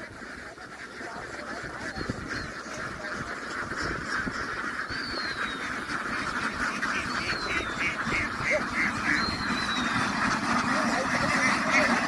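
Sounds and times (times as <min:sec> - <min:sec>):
flock of ducks quacking: 0:00.0 - 0:12.0.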